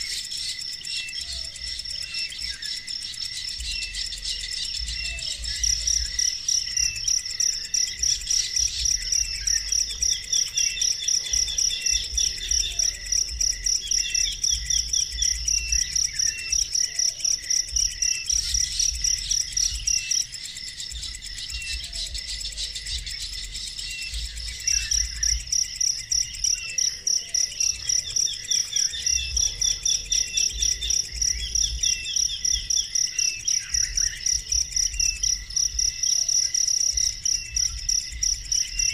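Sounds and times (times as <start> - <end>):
insect chirping: 0.0 - 38.9.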